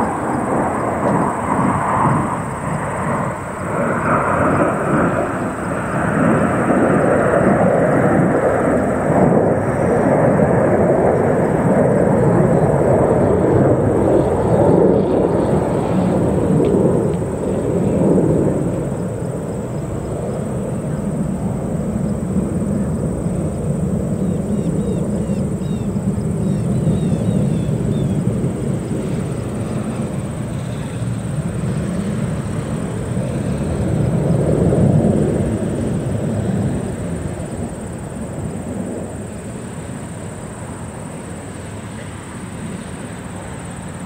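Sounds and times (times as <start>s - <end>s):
jet engine rumble: 0.0s - 44.0s.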